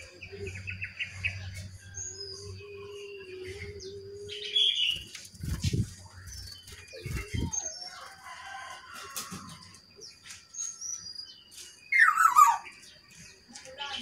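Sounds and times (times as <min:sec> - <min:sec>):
songbirds chirping and whistling: 0:00.0 - 0:14.0.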